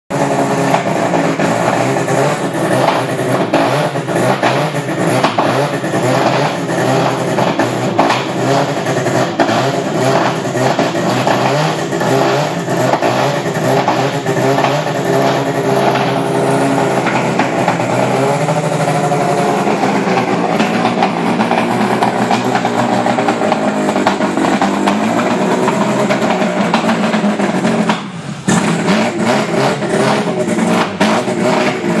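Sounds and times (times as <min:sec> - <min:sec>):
racing car engines revving: 0:00.1 - 0:32.0.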